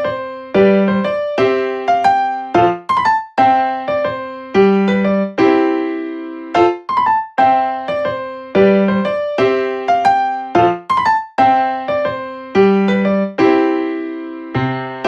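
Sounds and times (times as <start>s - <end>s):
keyboard playing bouncy chords: 0.0s - 15.0s.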